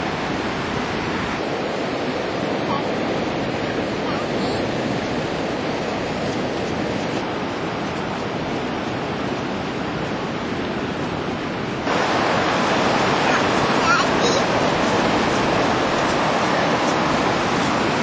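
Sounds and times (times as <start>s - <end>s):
ocean surf rushing: 0.0s - 18.0s.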